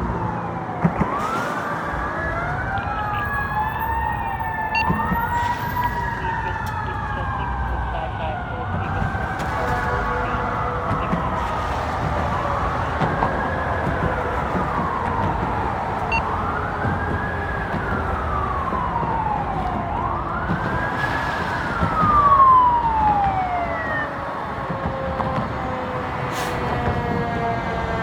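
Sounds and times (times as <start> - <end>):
fire truck siren wailing: 0.0 - 28.0
truck rumble: 0.0 - 28.0.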